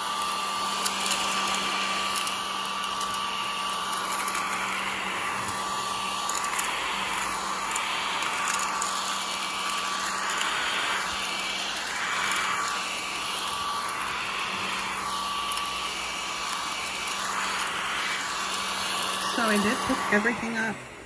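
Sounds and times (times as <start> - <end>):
mini vacuum cleaner running: 0.0 - 21.0.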